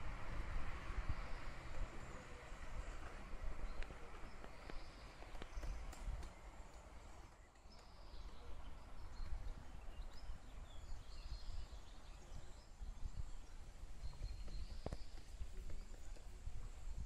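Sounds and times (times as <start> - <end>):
wind rumbling on microphone: 0.0 - 7.2, 7.8 - 17.0
small birds chirping: 1.0 - 17.0.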